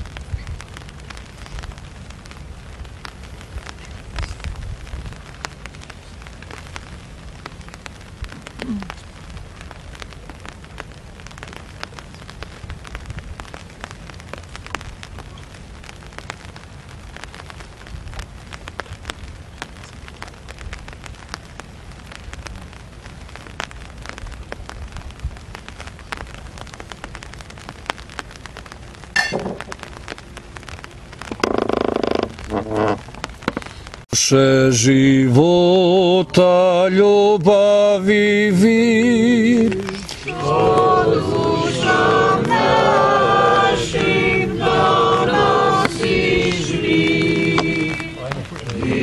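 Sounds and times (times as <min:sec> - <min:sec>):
rain pattering: 0:00.0 - 0:49.0.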